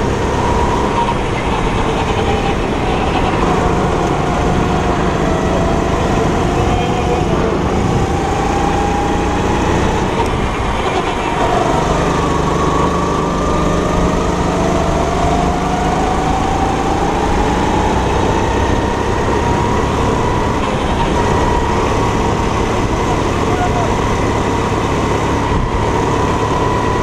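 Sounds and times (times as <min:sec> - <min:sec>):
go-kart engine accelerating: 0:00.0 - 0:27.0
wind noise: 0:00.0 - 0:27.0.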